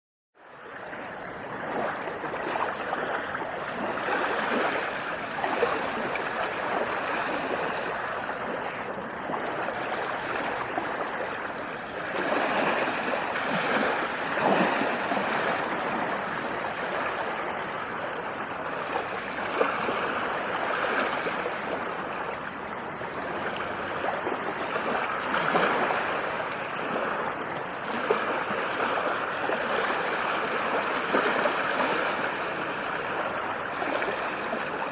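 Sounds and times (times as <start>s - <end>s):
ocean waves washing on shore: 0.4s - 34.9s.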